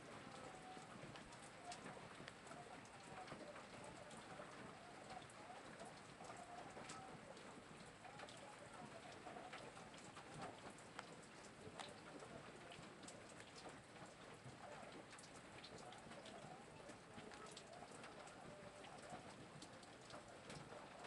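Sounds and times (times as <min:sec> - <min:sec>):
light rain hiss: 0:00.0 - 0:21.0
raindrops ticking: 0:00.0 - 0:21.0.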